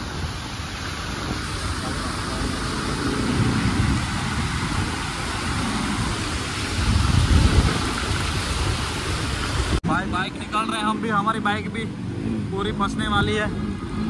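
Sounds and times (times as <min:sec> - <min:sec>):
tyres swishing through water: 0:00.0 - 0:14.0.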